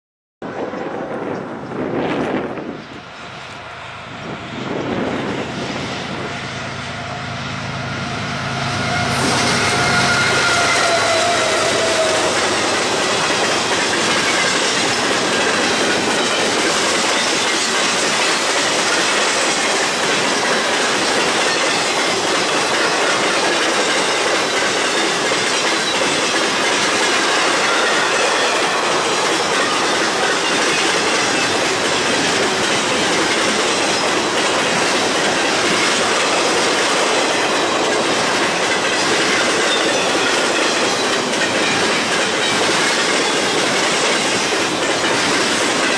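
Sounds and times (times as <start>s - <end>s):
train wheels clacking on rails: 7.8s - 45.9s.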